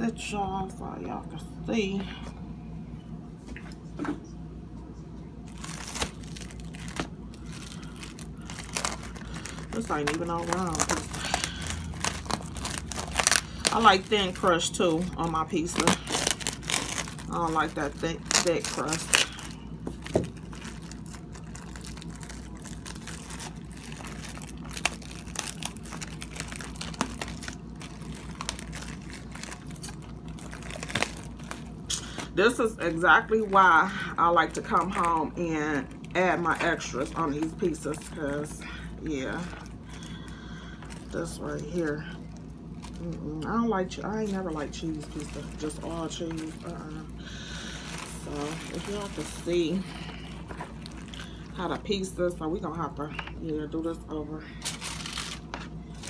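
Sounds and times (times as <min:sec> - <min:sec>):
low steady hum: 0:00.0 - 0:56.0
plastic wrap crinkling: 0:05.4 - 0:52.2, 0:54.6 - 0:56.0.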